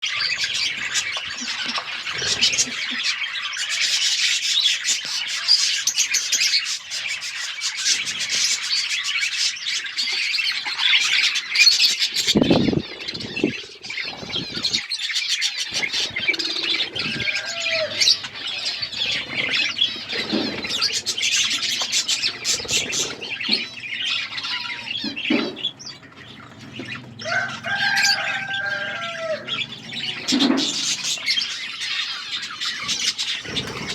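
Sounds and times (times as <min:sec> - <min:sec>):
budgerigars chattering and warbling: 0:00.0 - 0:33.9.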